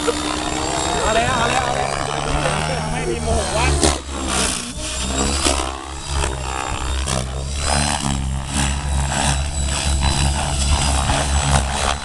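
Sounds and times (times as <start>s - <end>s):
electric motor whine: 0.0s - 12.0s
helicopter rotor beating: 0.0s - 12.0s.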